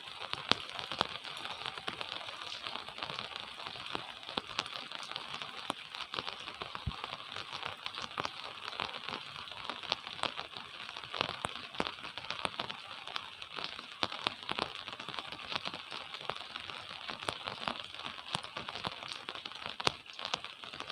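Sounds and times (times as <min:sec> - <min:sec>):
gentle rain patter: 0:00.0 - 0:20.9.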